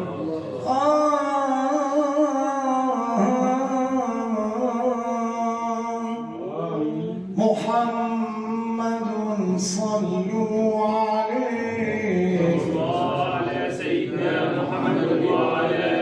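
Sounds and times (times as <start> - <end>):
man singing wordless held notes: 0.0 - 13.0.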